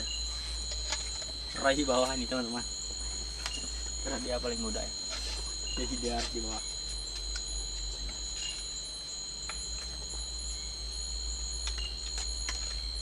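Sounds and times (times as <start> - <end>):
insects trilling at night: 0.0 - 13.0.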